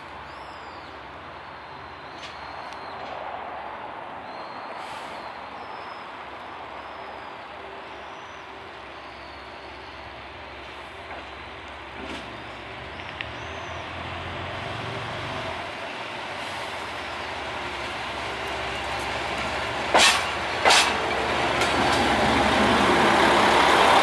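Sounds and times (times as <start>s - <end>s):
diesel railcar rumbling: 0.0s - 24.0s.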